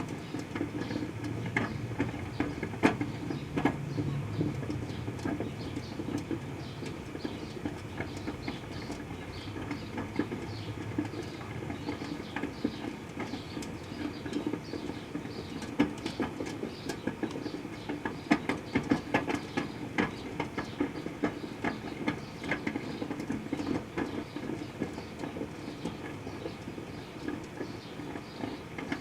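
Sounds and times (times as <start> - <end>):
microwave oven humming: 0.0 - 29.0
sharp crackles and ticks: 0.0 - 29.0.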